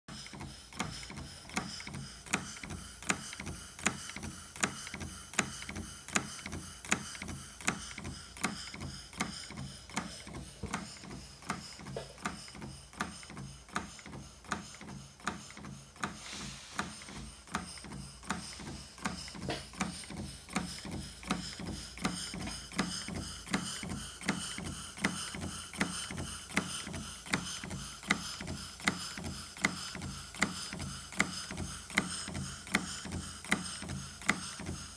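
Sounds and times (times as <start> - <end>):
model steam engine ticking: 0.1 - 16.2, 16.8 - 34.9.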